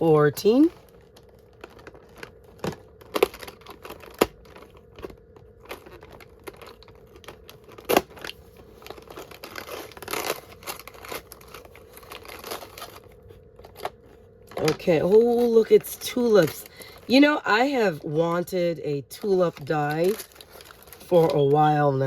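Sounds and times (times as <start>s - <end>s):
rustling packaging: 0.0s - 22.0s
packaging torn and crinkled: 0.4s - 17.2s, 19.2s - 21.7s.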